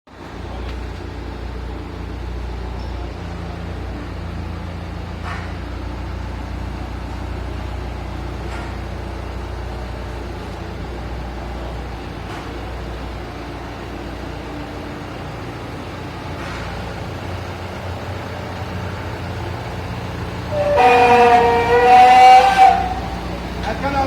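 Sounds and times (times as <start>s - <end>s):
road noise: 0.1s - 24.0s
truck engine running: 0.1s - 24.0s.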